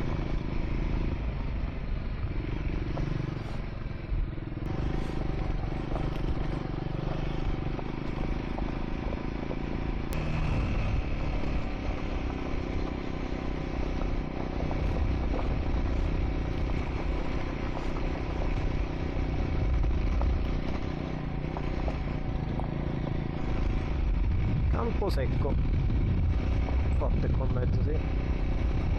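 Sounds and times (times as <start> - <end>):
motorcycle engine running: 0.0 - 28.9
rushing wind: 0.0 - 28.9.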